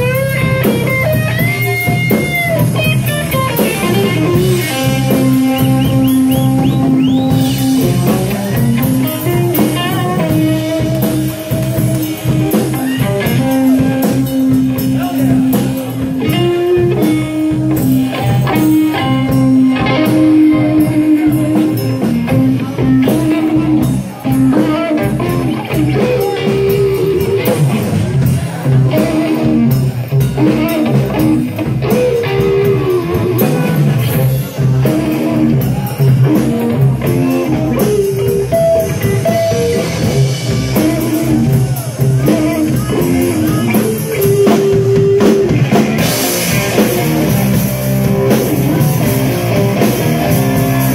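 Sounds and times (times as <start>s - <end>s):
electric guitar lines: 0.0s - 50.9s
rock beat on drum kit: 0.0s - 50.9s.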